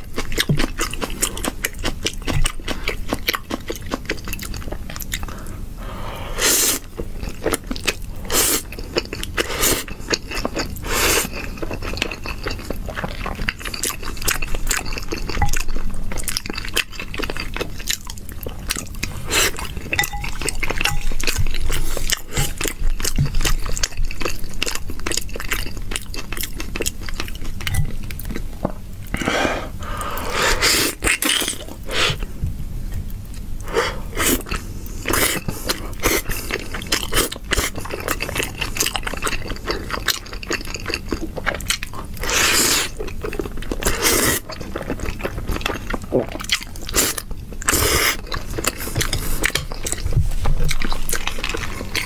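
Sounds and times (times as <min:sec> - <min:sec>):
wet chewing with mouth clicks: 0:00.0 - 0:05.6, 0:06.8 - 0:29.2, 0:32.9 - 0:52.0.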